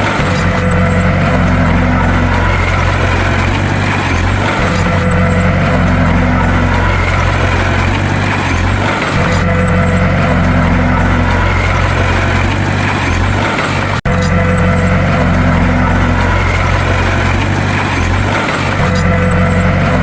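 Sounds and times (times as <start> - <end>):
bulldozer diesel engine drone: 0.0 - 20.0.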